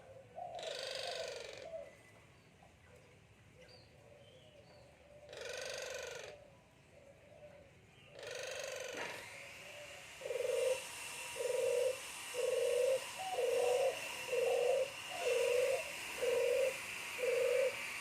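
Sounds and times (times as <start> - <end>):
dove cooing: 0.0 - 2.2, 5.0 - 18.0.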